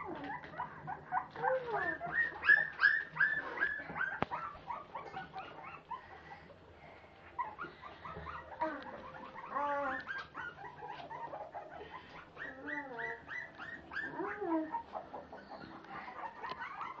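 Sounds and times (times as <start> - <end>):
puppies whimpering and yipping: 0.0 - 17.0.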